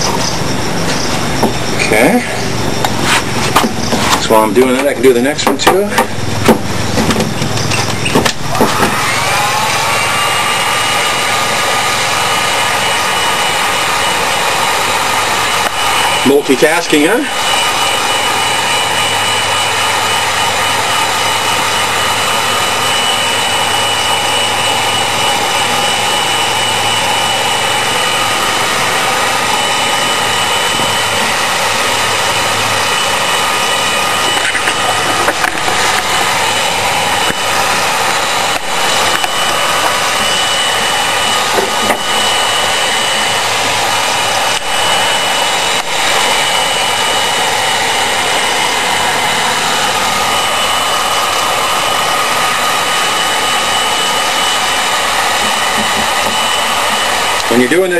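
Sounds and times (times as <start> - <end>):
heat gun blowing air: 0.0 - 57.9.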